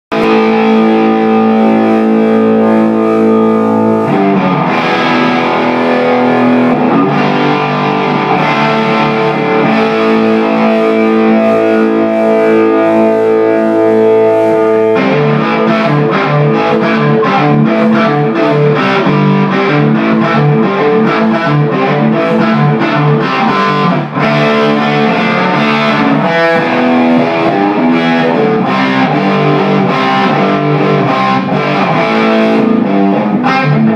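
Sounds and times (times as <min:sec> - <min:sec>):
overdriven electric guitar: 0:00.0 - 0:33.9.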